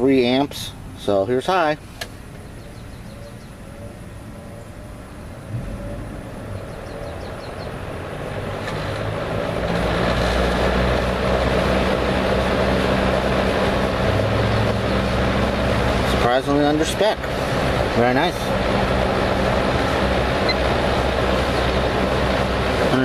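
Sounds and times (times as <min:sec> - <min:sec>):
fan motor hum and rushing air: 0:00.0 - 0:23.0.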